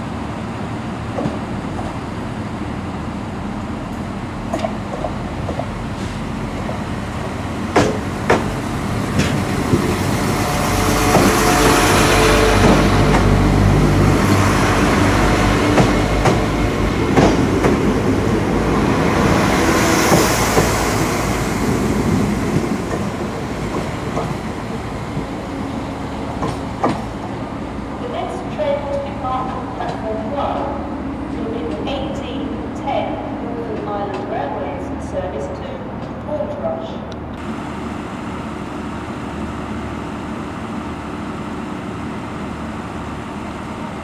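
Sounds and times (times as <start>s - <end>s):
diesel train passing: 0.0s - 44.0s.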